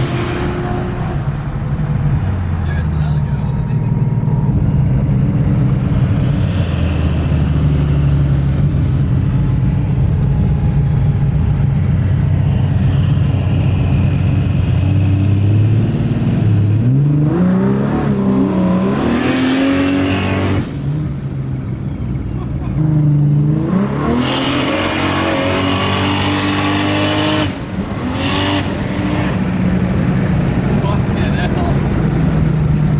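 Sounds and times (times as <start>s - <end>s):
car engine running and revving: 0.0s - 32.9s.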